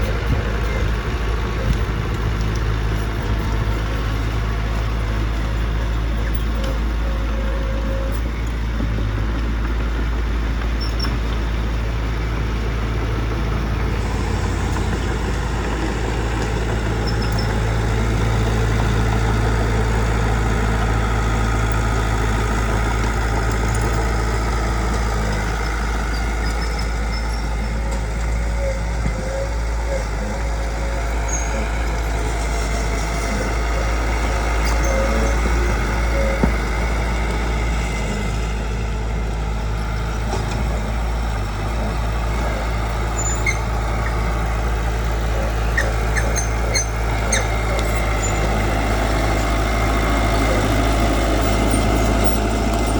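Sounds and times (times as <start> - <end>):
heavy machinery diesel engines: 0.0 - 52.9.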